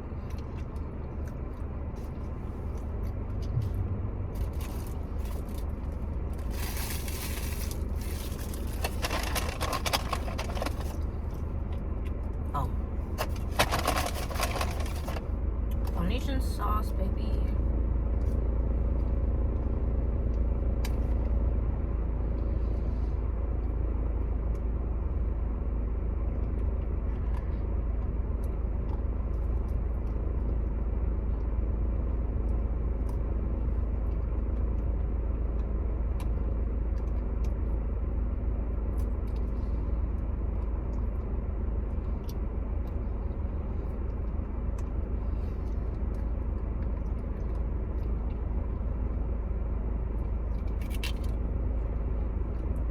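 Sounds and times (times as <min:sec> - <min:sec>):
low rumble: 0:00.0 - 0:52.9.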